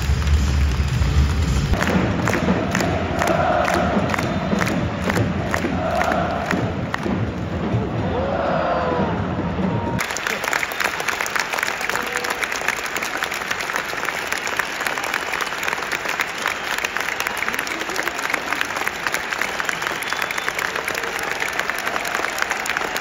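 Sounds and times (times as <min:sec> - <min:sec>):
stadium crowd applauding: 0:00.0 - 0:08.0, 0:09.6 - 0:23.0.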